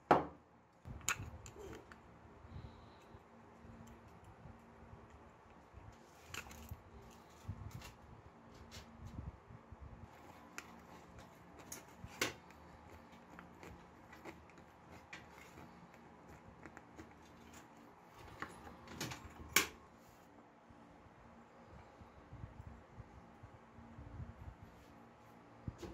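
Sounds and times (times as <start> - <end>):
faint low hum: 0.0 - 25.9.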